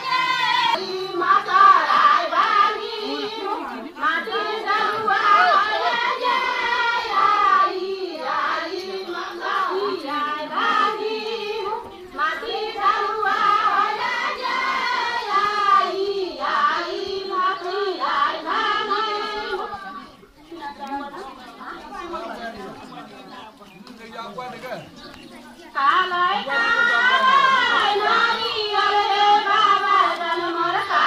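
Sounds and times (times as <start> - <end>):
high-pitched voices singing: 0.0 - 20.2, 25.7 - 31.0.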